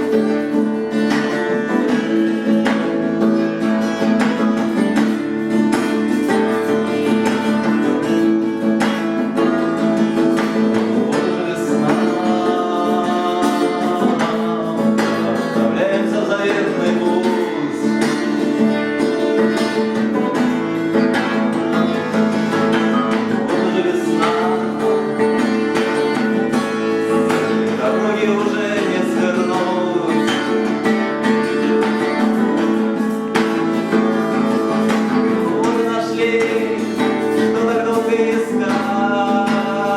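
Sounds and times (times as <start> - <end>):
acoustic guitar strumming: 0.0 - 39.9
person singing: 0.0 - 39.9.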